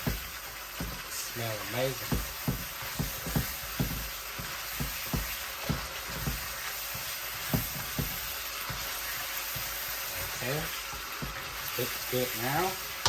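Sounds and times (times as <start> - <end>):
aromatics sizzling in a pan: 0.0 - 13.0
utensil scraping a pan: 0.0 - 13.0.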